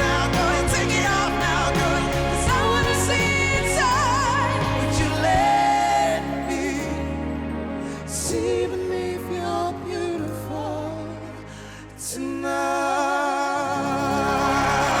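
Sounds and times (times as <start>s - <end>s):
live pop ballad band: 0.0s - 15.0s
person singing with vibrato: 0.0s - 15.0s.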